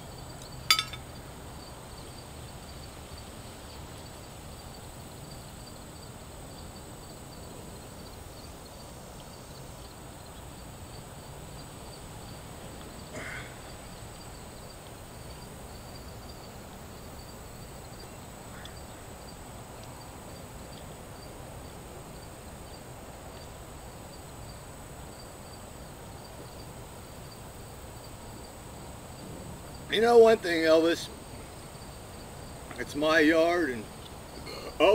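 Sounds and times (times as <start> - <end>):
cricket chirping: 0.0 - 34.9
low background noise: 0.0 - 34.9.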